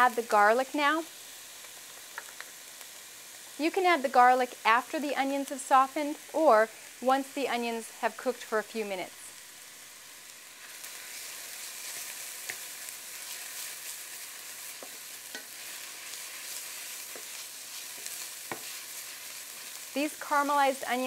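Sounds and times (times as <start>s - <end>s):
onions sizzling in a skillet: 0.0s - 21.0s.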